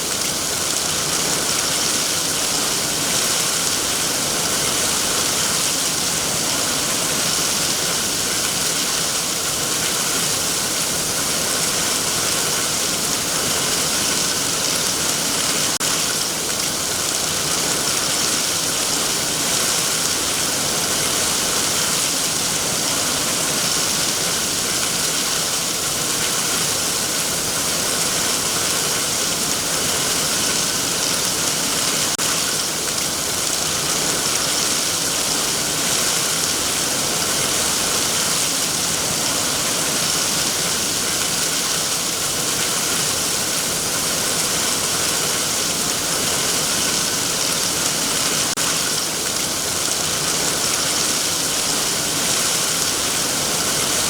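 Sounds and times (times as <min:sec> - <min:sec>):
heavy rain on trees: 0:00.0 - 0:54.0.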